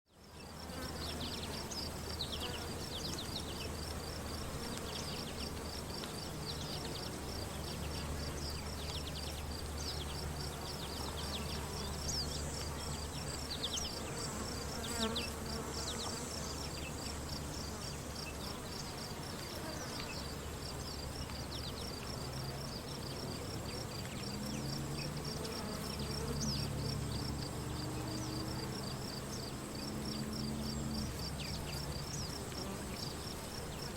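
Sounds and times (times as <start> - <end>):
flying insects buzzing: 0.1 - 33.9
pulsing cricket chirp: 0.2 - 33.9.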